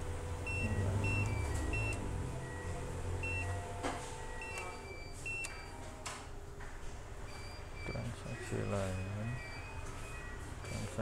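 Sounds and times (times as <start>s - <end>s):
keypad beeps: 0.4s - 5.8s, 7.3s - 11.0s.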